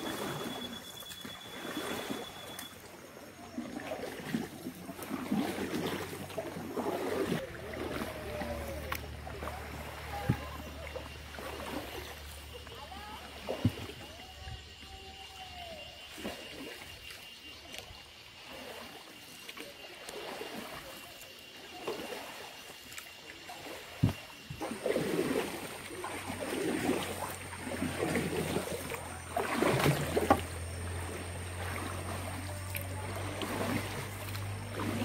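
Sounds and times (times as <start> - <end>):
paddle splashing in water: 0.0 - 35.0.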